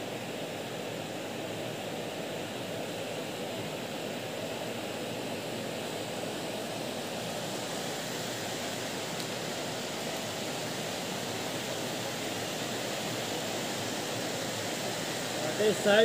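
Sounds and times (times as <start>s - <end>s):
river water over rapids: 0.0s - 16.0s.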